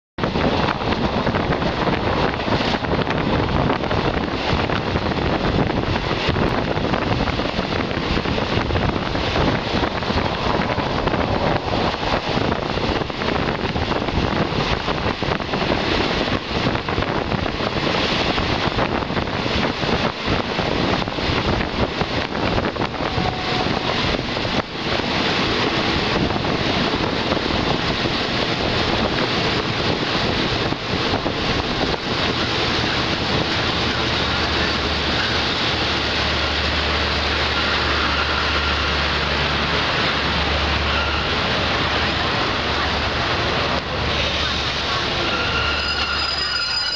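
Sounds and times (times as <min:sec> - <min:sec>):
train rumbling on rails: 0:00.2 - 0:46.9
wind noise on microphone: 0:00.2 - 0:46.9.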